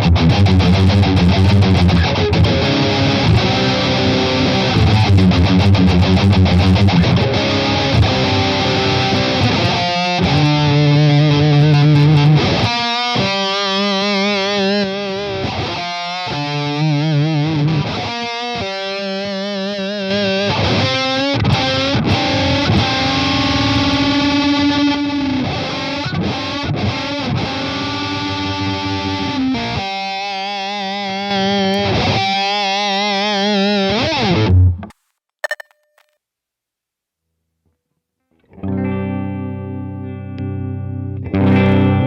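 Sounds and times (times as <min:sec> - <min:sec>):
fuzz electric guitar: 0:00.0 - 0:34.8, 0:38.6 - 0:42.0.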